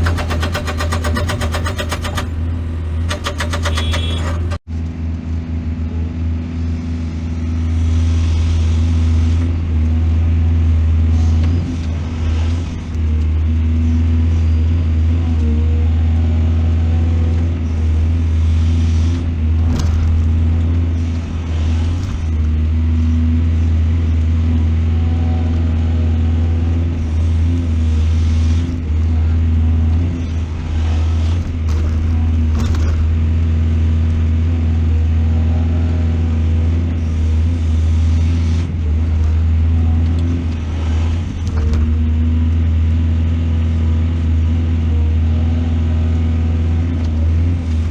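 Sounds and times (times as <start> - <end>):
excavator diesel engine droning: 0.0 - 47.9.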